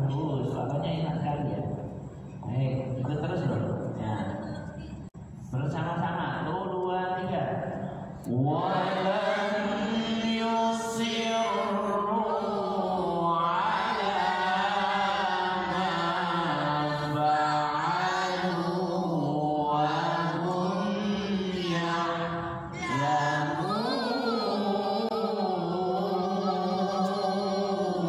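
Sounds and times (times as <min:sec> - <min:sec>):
man chanting recitation: 0:00.0 - 0:04.4, 0:05.4 - 0:28.0.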